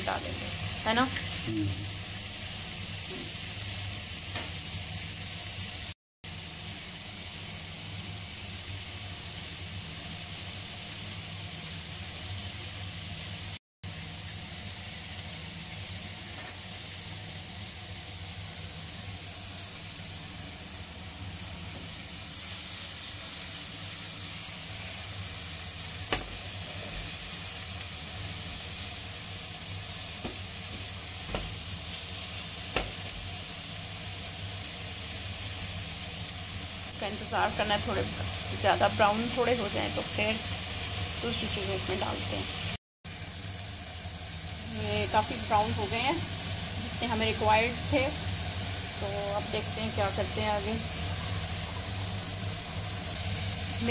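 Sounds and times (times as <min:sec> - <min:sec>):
onions sizzling in frying pan: 0:00.0 - 0:53.9.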